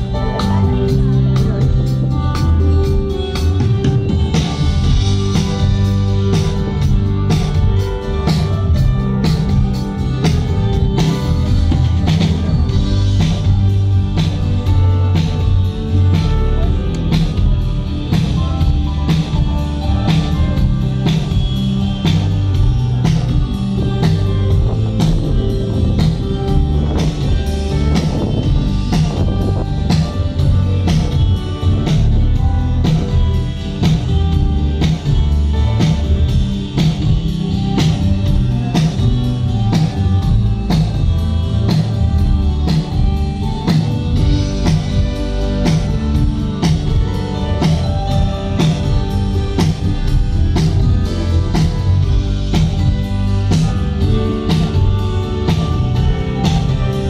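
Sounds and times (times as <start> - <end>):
drum kit: 0.0 - 57.0
guitar: 0.0 - 57.0.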